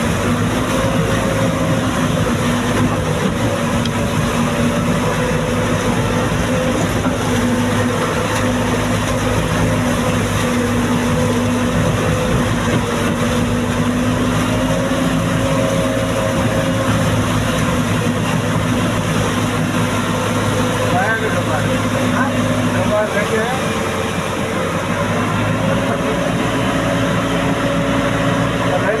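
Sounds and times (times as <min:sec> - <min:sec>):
diesel engine running: 0:00.0 - 0:29.0
water splashing and churning: 0:00.0 - 0:29.0.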